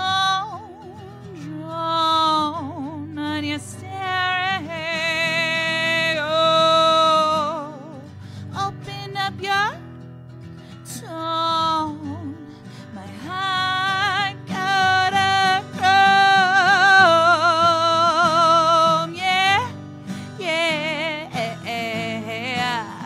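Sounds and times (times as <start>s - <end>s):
woman singing with vibrato: 0.0s - 9.9s, 10.8s - 23.0s
acoustic guitar: 0.0s - 23.0s.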